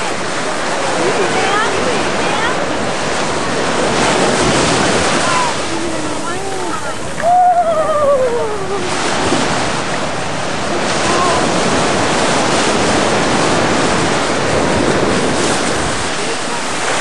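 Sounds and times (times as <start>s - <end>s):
ocean surf washing up: 0.0s - 17.0s
wind buffeting microphone: 0.0s - 17.0s.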